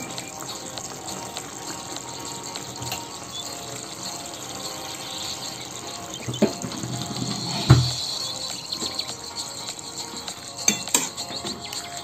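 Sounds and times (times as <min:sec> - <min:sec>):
curry bubbling and hissing: 0:00.0 - 0:12.0.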